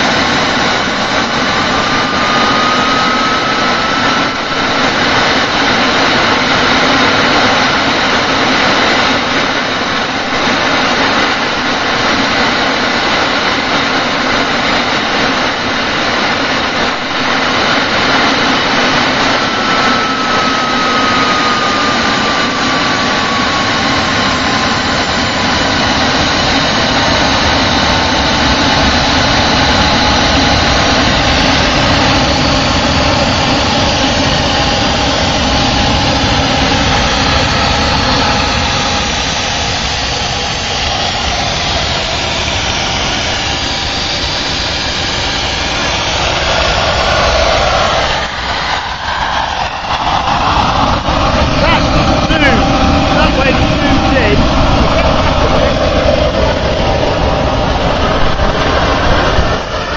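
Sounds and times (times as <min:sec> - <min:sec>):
jet engine roaring and whining: 0:00.0 - 0:59.9.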